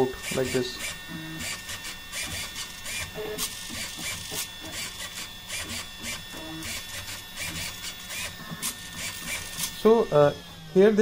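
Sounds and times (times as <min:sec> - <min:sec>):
small mechanical clicks: 0:00.0 - 0:10.0
machine high whine: 0:00.0 - 0:11.0.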